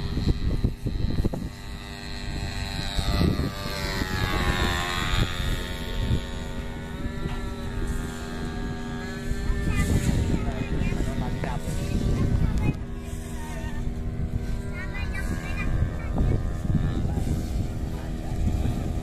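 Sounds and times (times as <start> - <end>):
model plane engine buzzing: 0.0 - 19.0
wind rumbling on microphone: 0.0 - 19.0.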